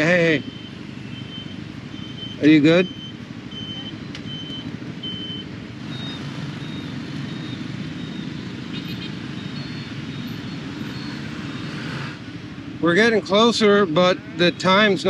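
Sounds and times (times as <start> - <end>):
motorbike engine and road rumble: 0.0 - 15.0.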